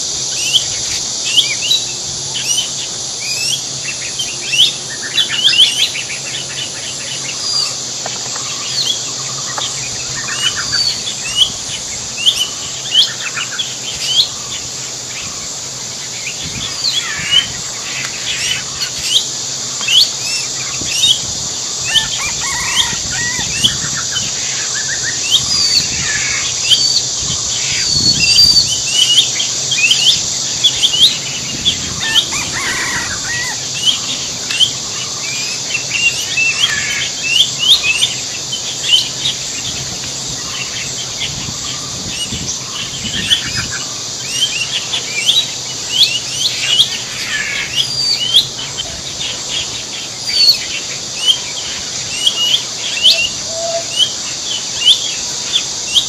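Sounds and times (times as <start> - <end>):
small birds chirping: 0.0 - 56.0
steady high hiss: 0.0 - 56.0.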